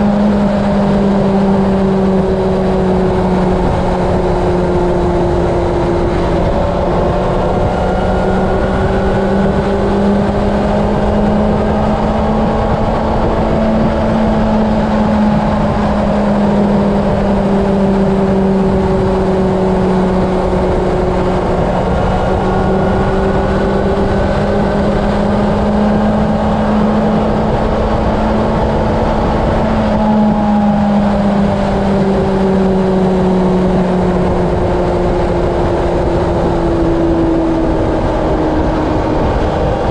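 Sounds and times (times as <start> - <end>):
motorcycle engine cruising: 0.0 - 39.9
road rumble: 0.0 - 39.9
wind rush: 0.0 - 39.9.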